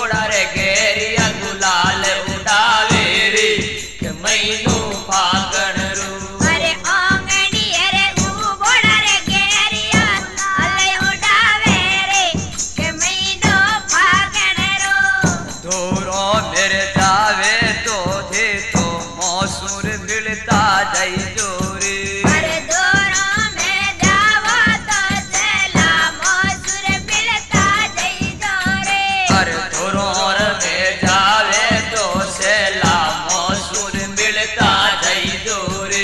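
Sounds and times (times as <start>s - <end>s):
hand percussion beat: 0.0s - 36.0s.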